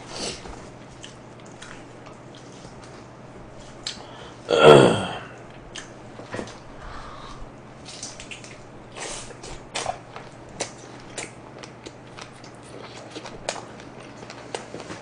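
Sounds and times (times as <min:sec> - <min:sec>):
person chewing pizza: 0:00.0 - 0:15.0.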